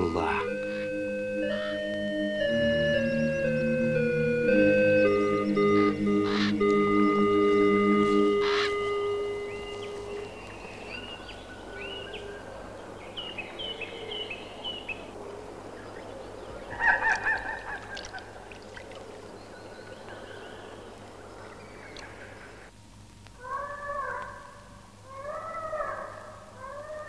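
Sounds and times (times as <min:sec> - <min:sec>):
birds chirping and whistling: 0:00.0 - 0:22.7
low pulsed bird call: 0:00.0 - 0:22.7.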